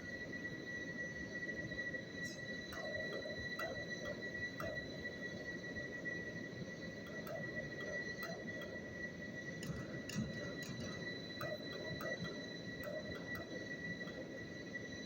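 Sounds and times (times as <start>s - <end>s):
machine tool whining: 0.0s - 15.0s.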